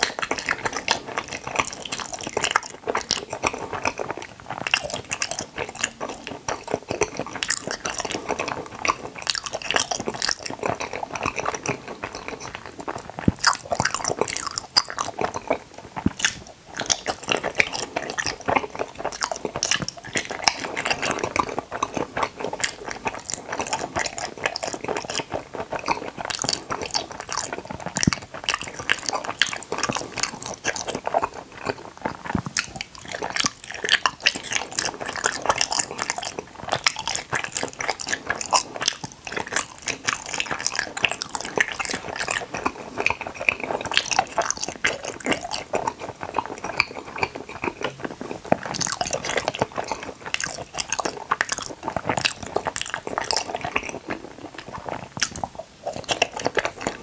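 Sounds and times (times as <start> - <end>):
chewing gummy candies: 0.0 - 57.0
mouth clicks and crackles: 0.0 - 57.0.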